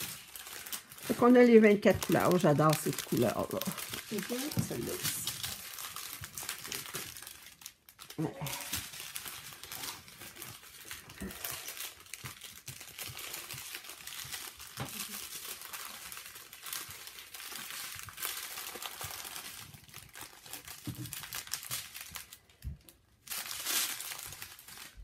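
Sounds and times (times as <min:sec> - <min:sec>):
plastic bags crinkling: 0:00.0 - 0:25.0.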